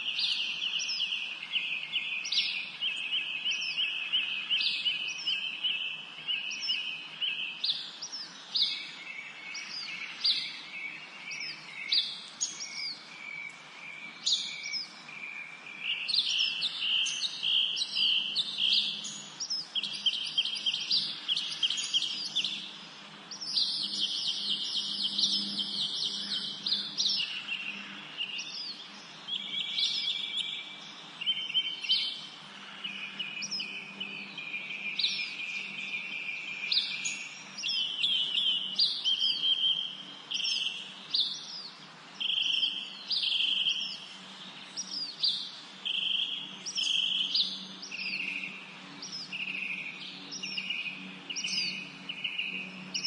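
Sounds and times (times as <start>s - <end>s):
faint background hiss: 0.0s - 53.0s.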